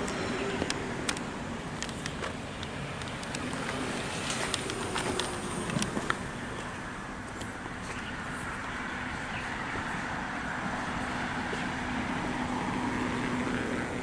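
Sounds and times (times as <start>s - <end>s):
vehicle humming past: 2.4s - 14.0s.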